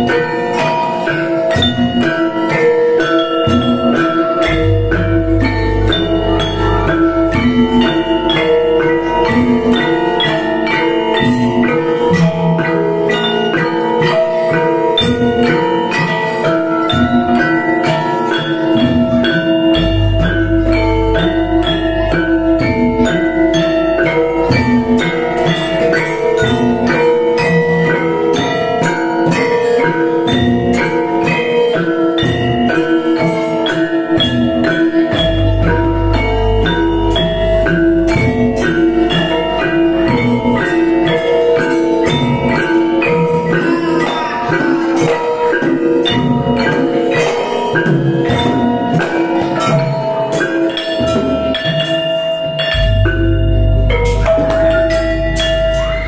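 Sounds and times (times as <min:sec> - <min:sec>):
hand drum: 0:00.0 - 0:56.0
metallophones and kettle gongs melody: 0:00.0 - 0:56.0.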